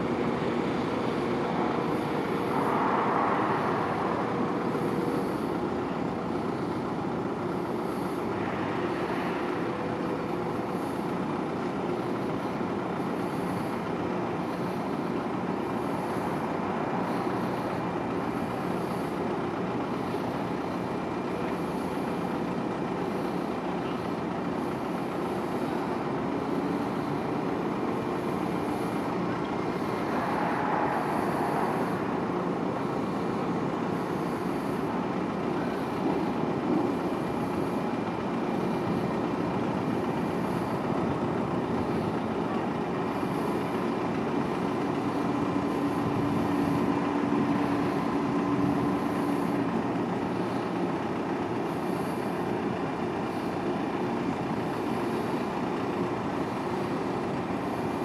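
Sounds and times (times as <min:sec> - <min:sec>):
faint steady hum: 0:00.0 - 0:58.0
ship engine drone: 0:00.0 - 0:58.0.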